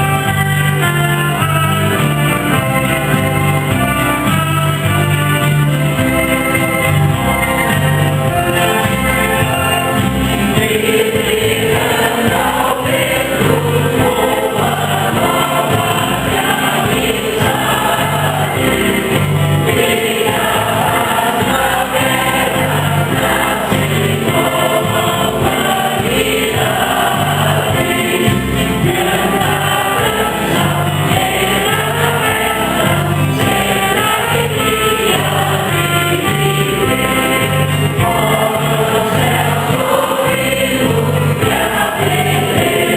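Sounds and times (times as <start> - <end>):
instrumental accompaniment: 0.0 - 42.9
steady rhythmic bass line: 0.0 - 42.9
group singing a hymn: 6.8 - 42.9.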